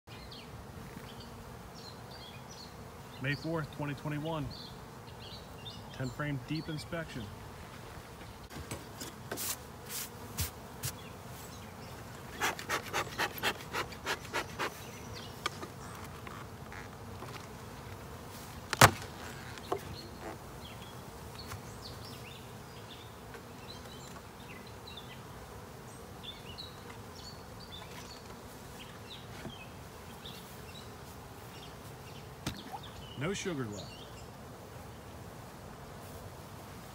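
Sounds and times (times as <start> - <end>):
honey bees buzzing: 0.1 - 36.9.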